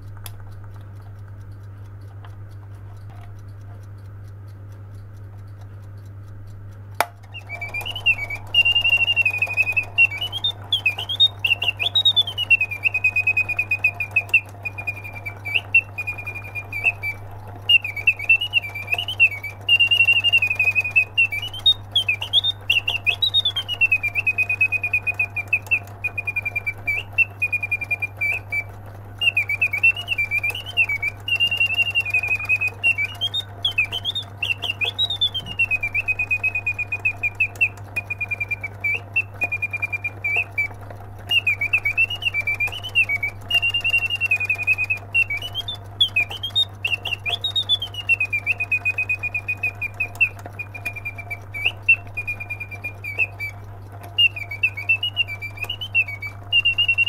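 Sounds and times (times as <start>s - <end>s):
steady low hum: 0.0s - 53.2s
clockwork whirring: 0.0s - 57.0s
alarm clock click: 7.0s - 53.7s
mechanical bird whistling trills: 7.2s - 57.0s.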